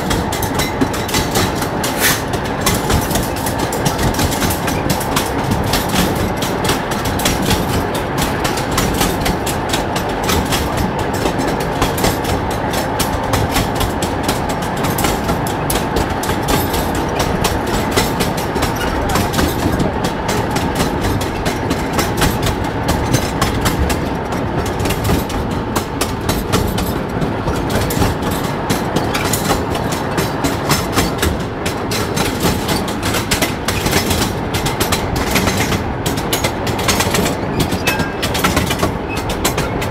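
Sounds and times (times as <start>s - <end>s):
wheels clattering over rails: 0.0s - 39.9s.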